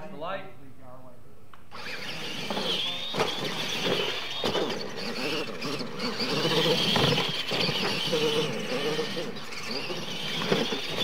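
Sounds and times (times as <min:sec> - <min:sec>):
high-pitched whine of electric motors: 0:01.7 - 0:11.0
toy trucks knocking and clattering: 0:01.7 - 0:11.0.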